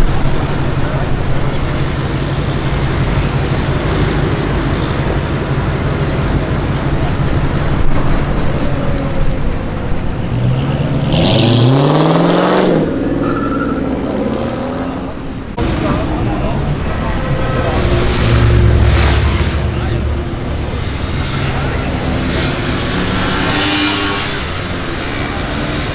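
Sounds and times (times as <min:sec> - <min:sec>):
car engine idling: 0:00.0 - 0:11.1, 0:12.8 - 0:25.9
car accelerating hard: 0:00.0 - 0:25.9.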